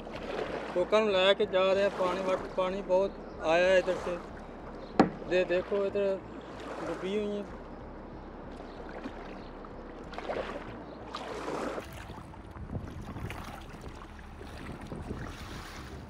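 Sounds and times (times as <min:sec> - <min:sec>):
kayak paddle splashing in water: 0:00.0 - 0:16.0
wind rumble on microphone: 0:00.0 - 0:16.0.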